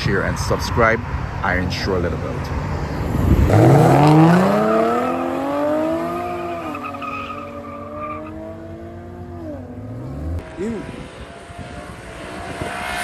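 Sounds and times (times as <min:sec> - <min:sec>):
race car engine accelerating: 0:00.6 - 0:13.0.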